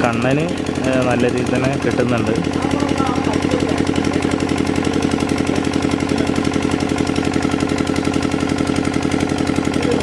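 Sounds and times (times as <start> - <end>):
small engine water pump running: 0.0 - 10.0.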